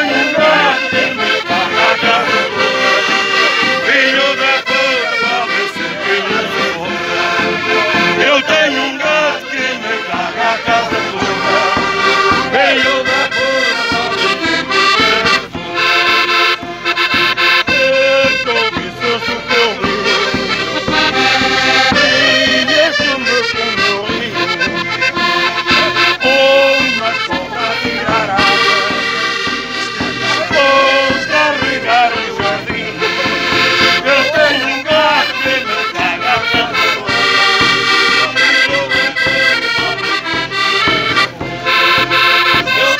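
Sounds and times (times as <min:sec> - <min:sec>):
bass drum beat: 0:00.0 - 0:42.9
button accordions playing folk tune: 0:00.0 - 0:42.9.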